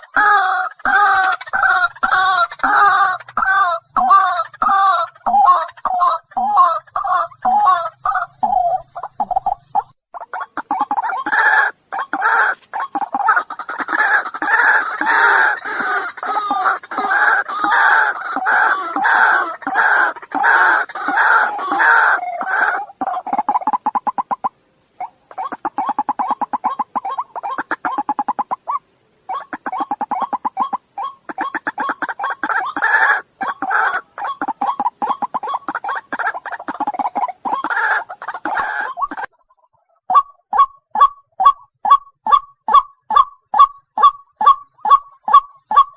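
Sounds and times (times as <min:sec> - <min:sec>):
waterhen calling: 0:00.0 - 0:39.4.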